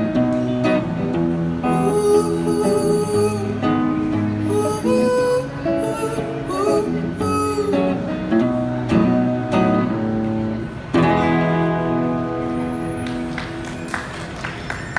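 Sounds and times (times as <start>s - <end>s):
acoustic guitar strumming: 0.0s - 13.9s.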